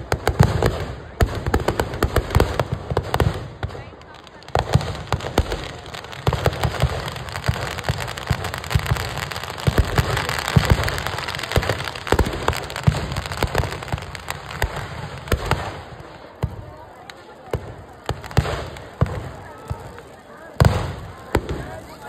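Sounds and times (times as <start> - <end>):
firecrackers crackling and banging: 0.0 - 22.0.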